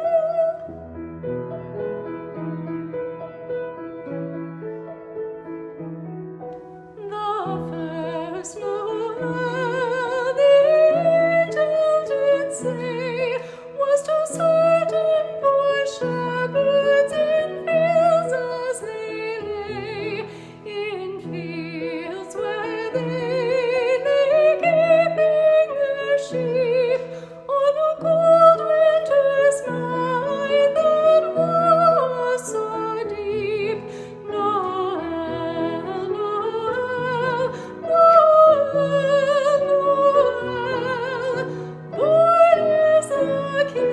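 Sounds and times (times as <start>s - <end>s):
piano chords: 0.0s - 43.9s.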